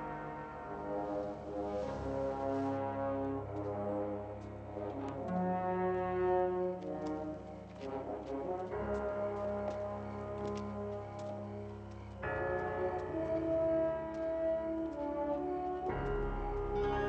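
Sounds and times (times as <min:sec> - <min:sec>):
brass chords: 0:00.0 - 0:17.0.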